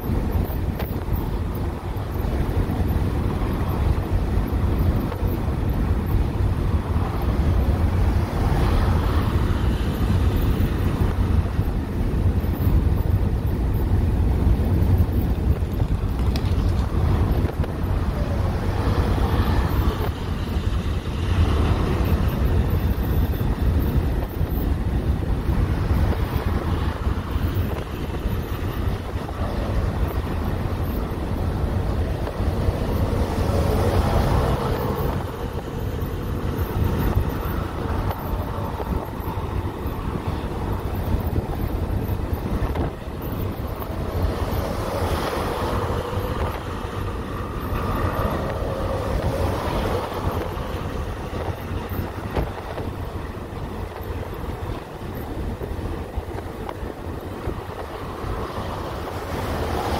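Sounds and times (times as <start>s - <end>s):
highway traffic passing: 0.0s - 59.9s
wind buffeting microphone: 0.0s - 59.9s.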